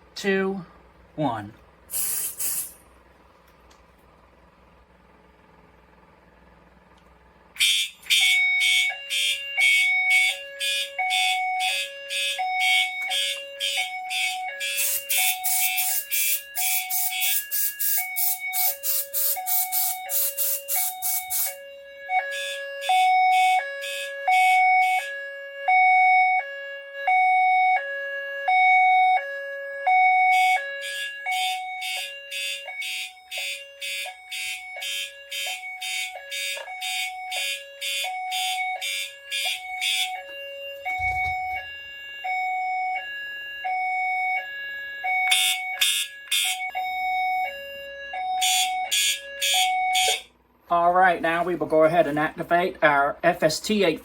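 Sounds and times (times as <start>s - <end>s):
hi-lo two-tone alarm: 1.3s - 2.8s, 7.6s - 52.7s
alarm horn pulsing rapidly: 7.5s - 54.0s.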